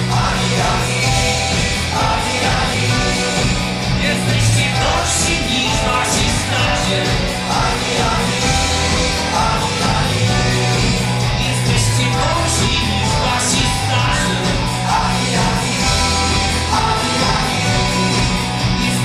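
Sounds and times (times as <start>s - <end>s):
bass guitar: 0.0s - 19.0s
drums: 0.0s - 19.0s
electric guitars: 0.0s - 19.0s
person singing lead vocal: 0.0s - 19.0s.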